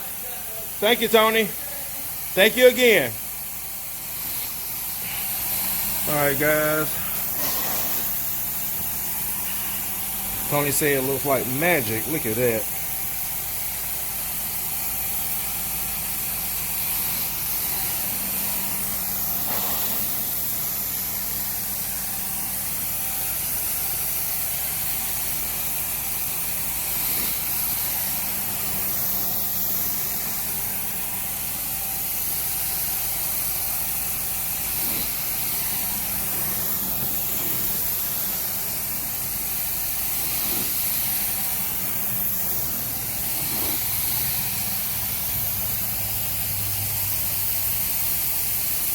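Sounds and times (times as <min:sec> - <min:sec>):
extraction machine hissing rush: 0:00.0 - 0:48.9.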